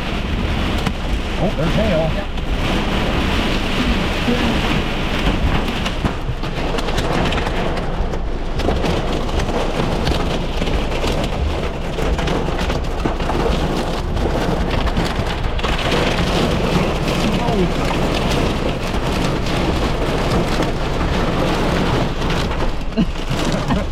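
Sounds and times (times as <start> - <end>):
hail and rain on car roof: 0.0 - 23.9
low rumble: 0.0 - 23.9.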